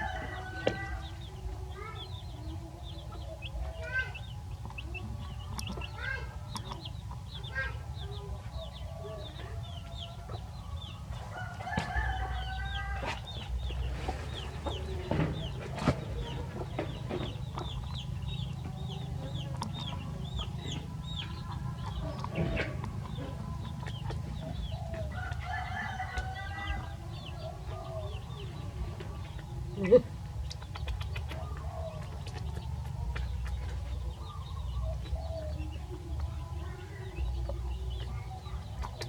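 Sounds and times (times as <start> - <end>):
chickens clucking: 0.0 - 39.0
chickens peeping: 0.0 - 39.0.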